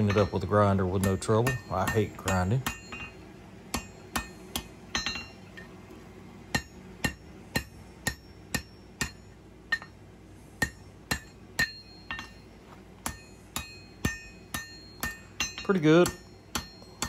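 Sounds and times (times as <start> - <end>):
hammer striking steel on anvil: 0.0 - 5.8, 6.5 - 17.0.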